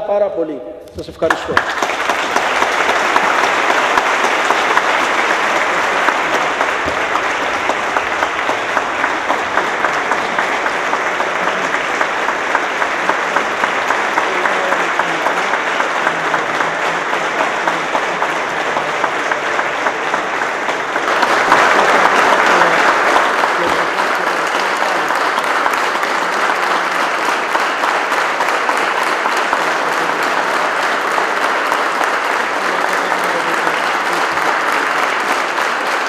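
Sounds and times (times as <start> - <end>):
crowd clapping: 1.0 - 36.0.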